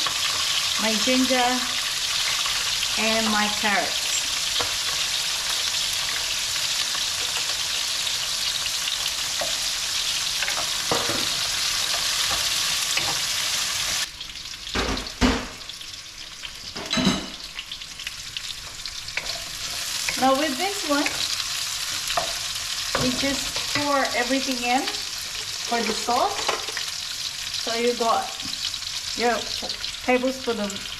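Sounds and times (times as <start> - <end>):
vegetables sizzling in a pan: 0.0 - 30.9.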